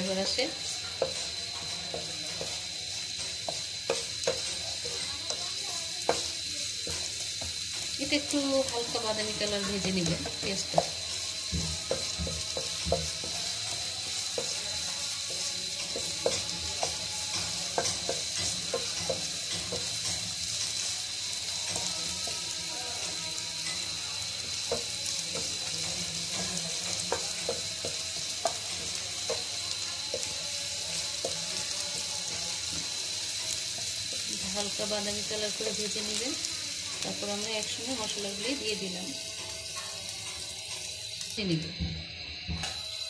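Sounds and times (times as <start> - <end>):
onions sizzling in hot oil: 0.0 - 43.0.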